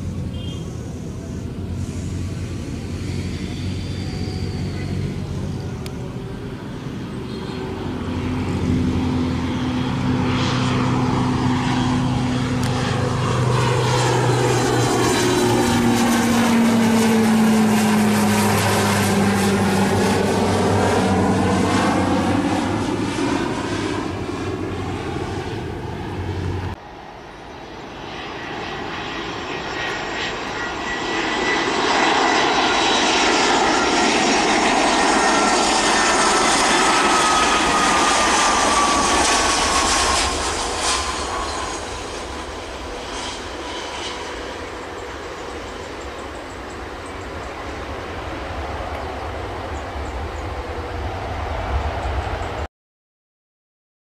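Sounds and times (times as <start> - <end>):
jet engines rushing hiss: 0.0 - 52.7
propeller plane drone: 0.0 - 52.7
thin jet whine: 0.0 - 52.7.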